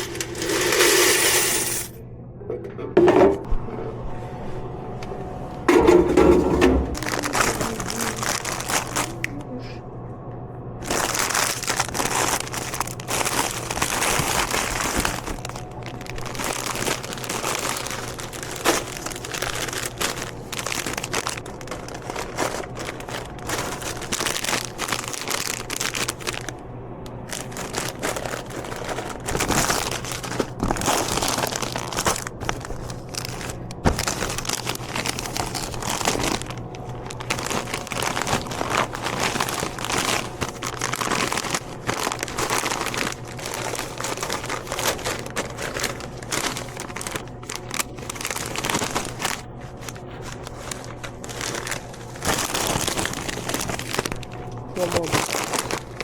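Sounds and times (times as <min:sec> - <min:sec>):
plastic wrappers crinkling: 0:00.0 - 0:01.0, 0:05.7 - 0:09.4, 0:10.8 - 0:56.0
steady low hum: 0:00.0 - 0:56.0.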